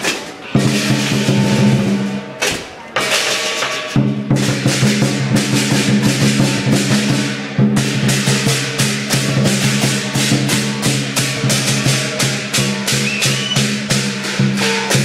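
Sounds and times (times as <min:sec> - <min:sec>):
big drum beats: 0:00.0 - 0:15.0
crashing cymbals: 0:00.0 - 0:15.0.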